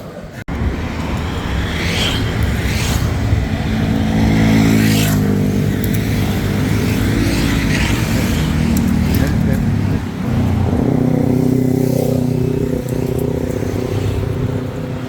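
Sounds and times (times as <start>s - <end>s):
street traffic: 0.0s - 15.0s
vehicle engine running: 0.5s - 15.0s.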